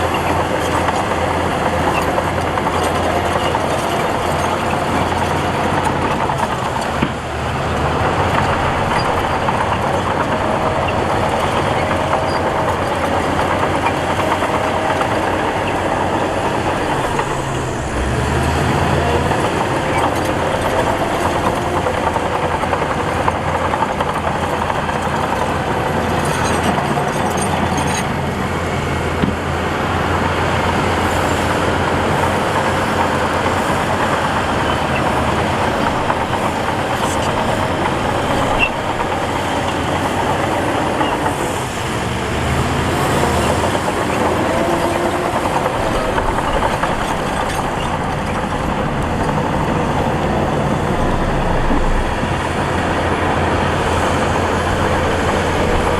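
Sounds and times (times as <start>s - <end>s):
heavy diesel machinery under load: 0.0s - 55.9s.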